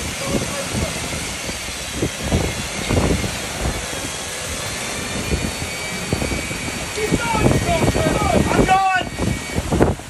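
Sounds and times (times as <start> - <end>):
wind at sea: 0.0 - 10.0
wind buffeting microphone: 0.0 - 10.0.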